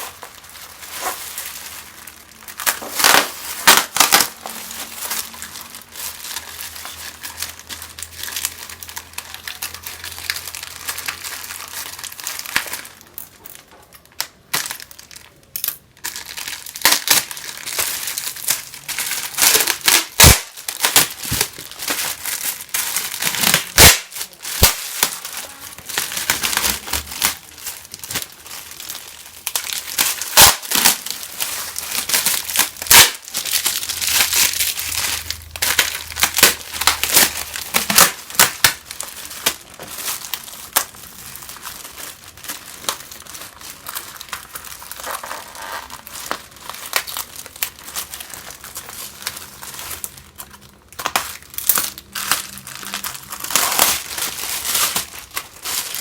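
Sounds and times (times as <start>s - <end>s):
soap packaging crinkling: 0.0s - 56.0s.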